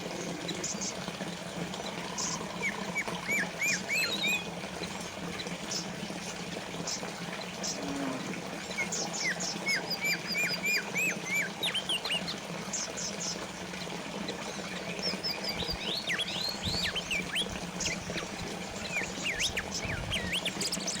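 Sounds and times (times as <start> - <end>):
water fountain trickling: 0.0 - 21.0
small songbirds chirping: 1.6 - 7.9, 8.7 - 21.0.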